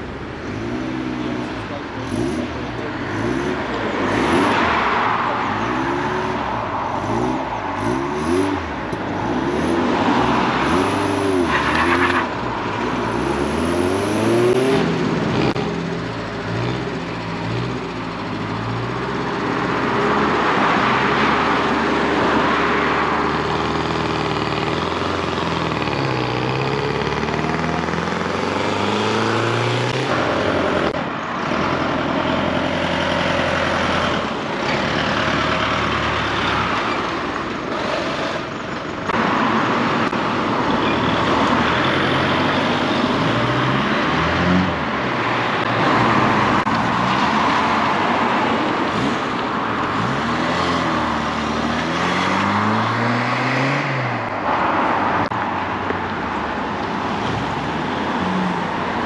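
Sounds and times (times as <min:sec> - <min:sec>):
car engines revving: 0:00.0 - 0:59.0
cars driving past: 0:00.0 - 0:59.0.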